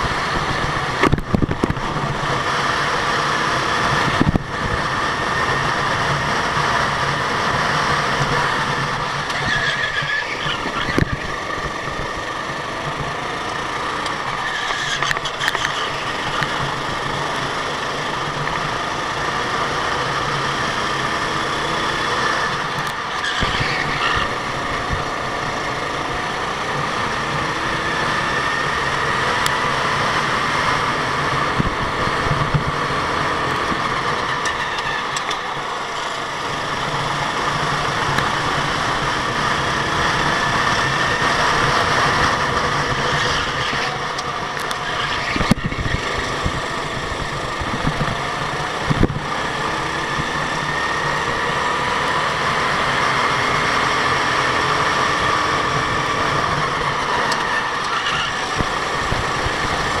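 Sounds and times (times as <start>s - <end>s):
go-kart engines droning: 0.0s - 60.0s.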